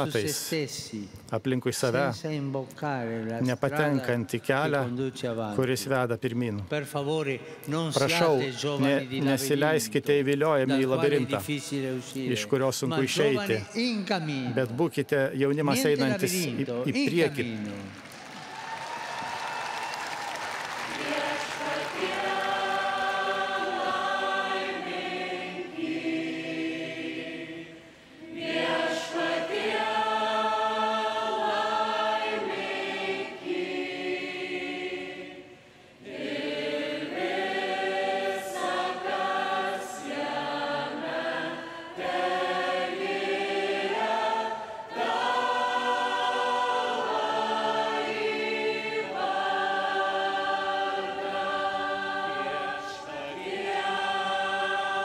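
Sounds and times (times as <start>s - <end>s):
choir singing: 0.0s - 0.8s, 7.9s - 13.6s, 15.4s - 17.5s, 19.2s - 55.0s.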